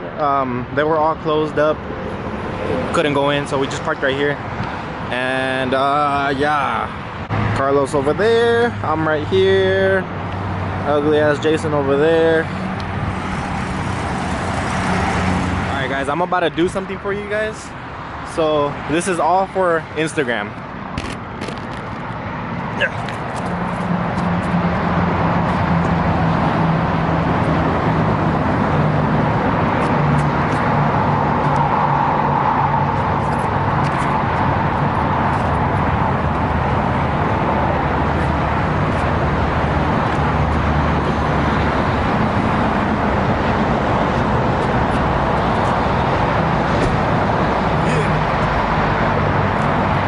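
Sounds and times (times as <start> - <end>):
constant rush of noise: 0.0 - 50.0
vehicle engine hum: 0.0 - 50.0.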